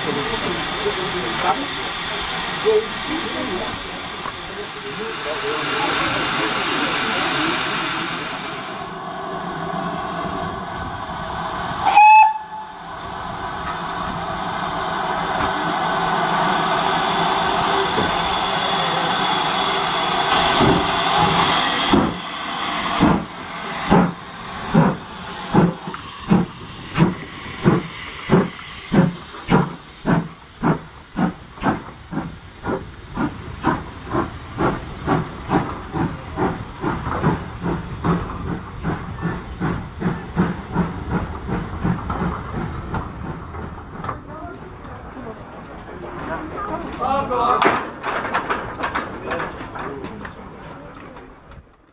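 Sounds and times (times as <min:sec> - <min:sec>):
steam locomotive exhaust chuffs: 0:00.0 - 0:44.2
steam locomotive hissing: 0:00.0 - 0:47.6.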